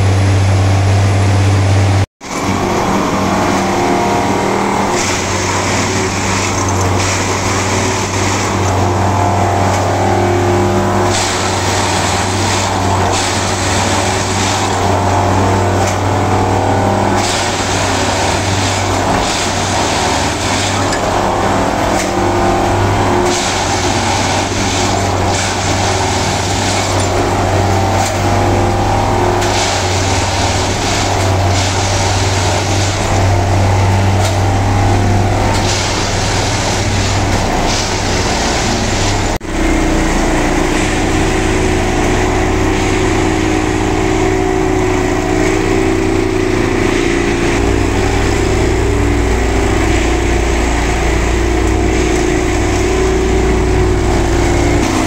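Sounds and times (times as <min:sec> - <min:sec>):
low machine drone: 0:00.0 - 0:55.0
tamping machine engine and hydraulics: 0:00.0 - 0:55.0
machine rattling surges: 0:02.2 - 0:55.0.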